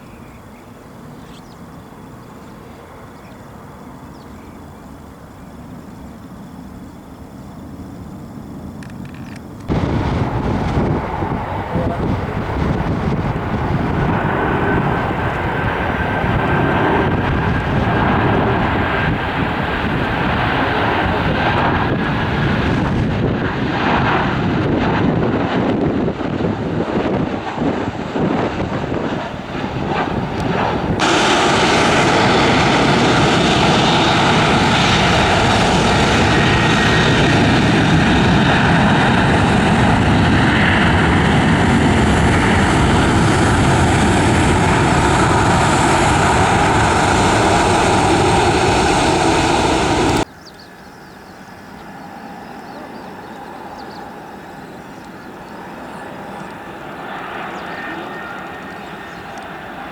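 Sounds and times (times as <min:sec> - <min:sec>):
airliner engines rushing: 0:00.0 - 0:59.9
quieter aircraft engine: 0:00.0 - 0:59.9.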